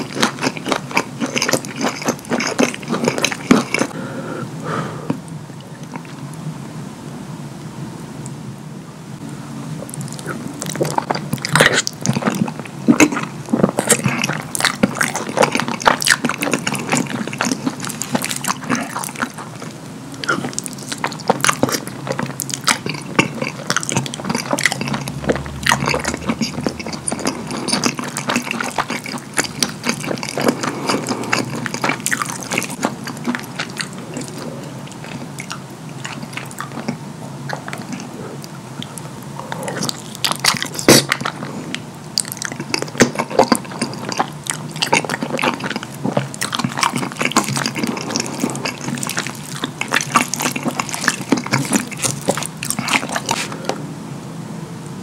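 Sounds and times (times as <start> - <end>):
wet chewing and lip smacking: 0.0 - 4.0, 9.8 - 53.7.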